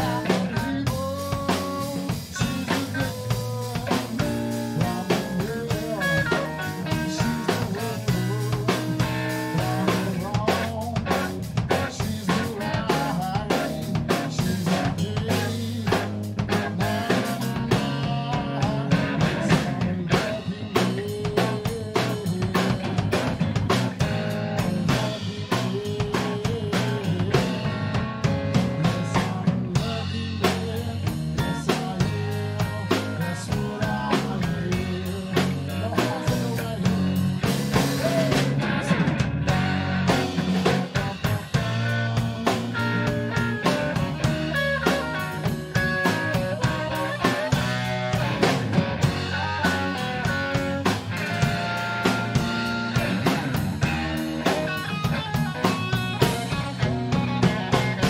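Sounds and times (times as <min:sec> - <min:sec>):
bass guitar: 0:00.0 - 0:58.0
drum kit: 0:00.0 - 0:58.0
electric guitar lead lines: 0:00.0 - 0:58.0.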